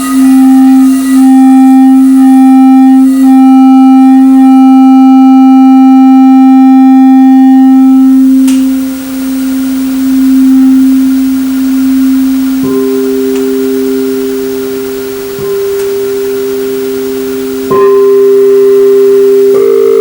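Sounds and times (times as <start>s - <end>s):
singing bowls ringing: 0.0s - 20.0s.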